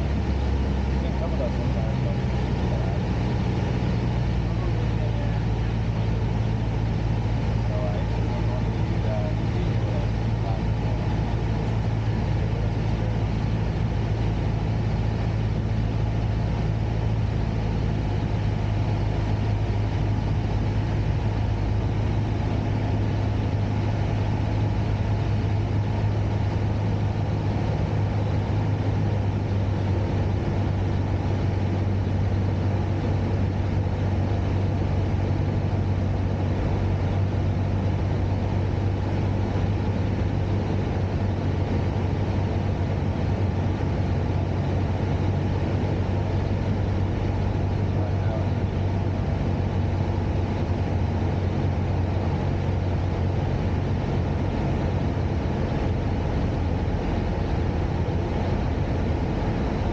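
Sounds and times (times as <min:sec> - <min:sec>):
airplane engine and propeller droning: 0:00.0 - 0:59.9.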